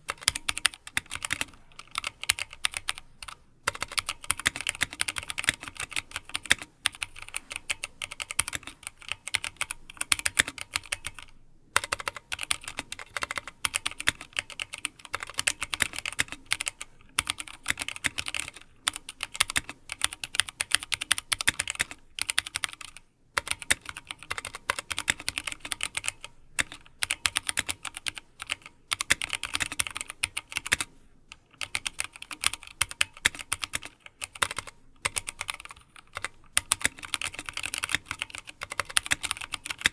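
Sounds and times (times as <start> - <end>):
mechanical keyboard typing: 0.0 - 30.9, 31.5 - 39.9.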